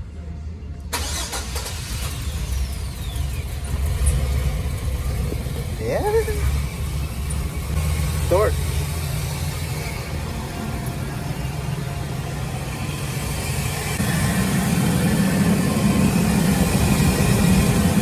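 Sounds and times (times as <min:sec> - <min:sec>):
van engine drone: 0:00.0 - 0:18.0.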